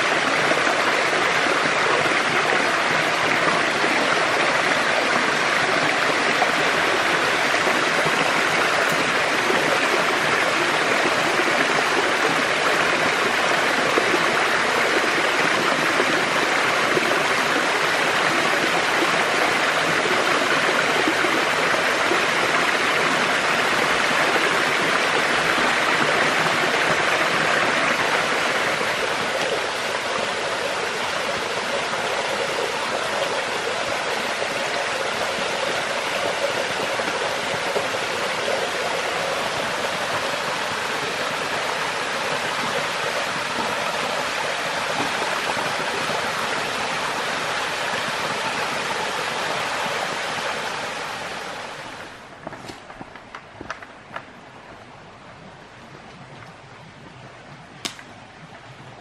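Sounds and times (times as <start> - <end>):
small waterfall splashing over rock: 0.0 - 54.3.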